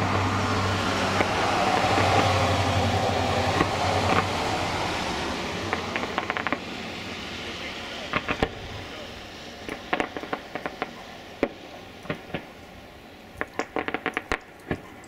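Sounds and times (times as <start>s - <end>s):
distant fireworks popping: 0.0s - 15.0s.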